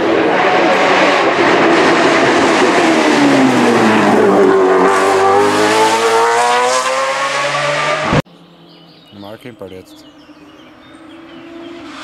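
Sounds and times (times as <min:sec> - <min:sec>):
racing engine revving: 0:00.0 - 0:08.2, 0:10.6 - 0:12.0.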